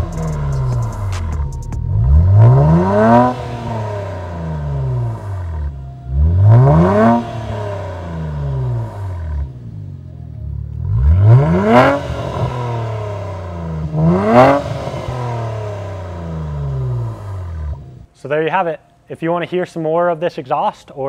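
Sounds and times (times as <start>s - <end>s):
car engine revving: 0.0s - 18.1s.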